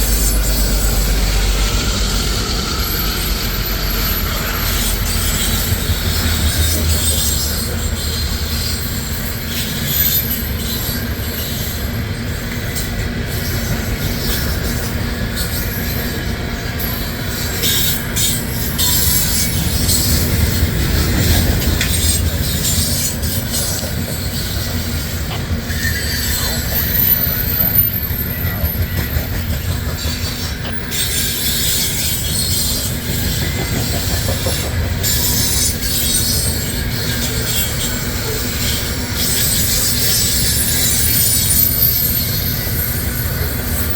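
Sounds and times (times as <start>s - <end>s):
faint high wheel squeal: 0.0s - 43.9s
steel wheels rumbling on rail: 0.0s - 43.9s.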